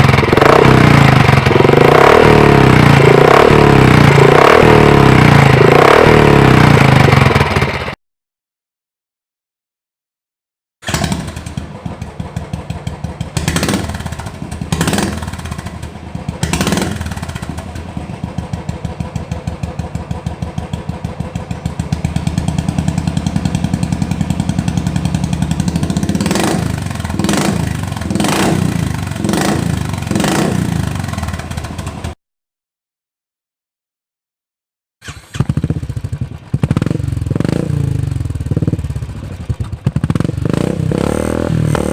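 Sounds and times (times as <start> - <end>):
motorcycle idling: 0.0 - 8.0, 10.8 - 32.2, 35.0 - 41.9
motorcycle revving: 0.0 - 8.0, 10.8 - 32.2, 35.0 - 41.9.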